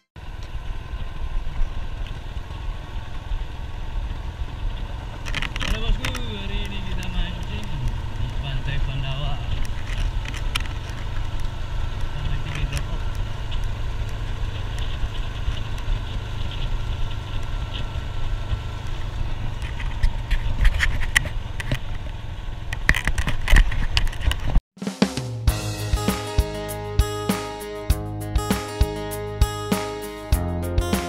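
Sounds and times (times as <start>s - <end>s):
motorcycle running: 0.0s - 24.6s, 25.4s - 31.0s.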